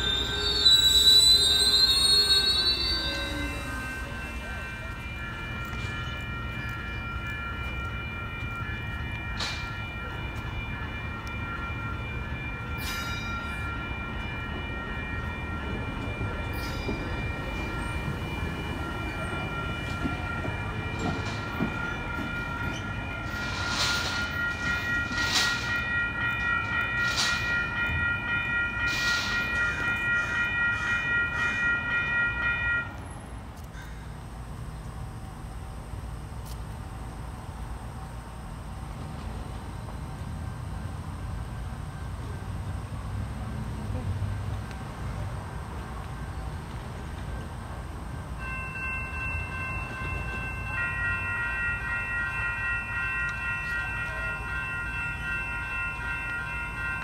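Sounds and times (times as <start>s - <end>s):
level crossing warning bell: 0.0s - 33.7s, 38.4s - 57.0s
train rumbling on rails: 0.0s - 57.0s.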